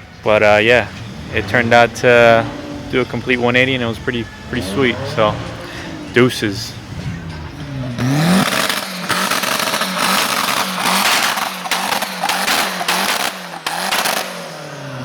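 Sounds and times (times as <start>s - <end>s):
car engine revving hard: 0.4s - 15.0s.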